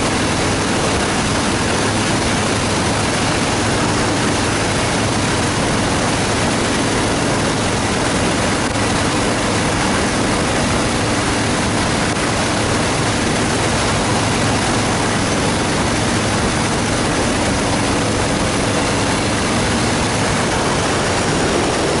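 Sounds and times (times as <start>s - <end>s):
motorcycle engine droning: 0.0s - 22.0s
wind noise on microphone: 0.0s - 22.0s.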